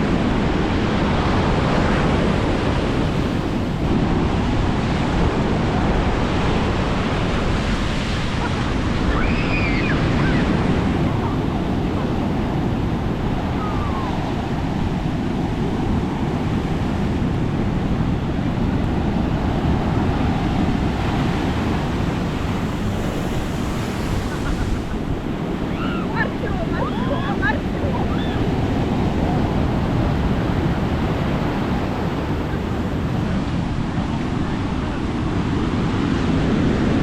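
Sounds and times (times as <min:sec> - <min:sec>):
sea waves breaking on beach: 0:00.0 - 0:37.0
wind buffeting microphone: 0:00.0 - 0:37.0.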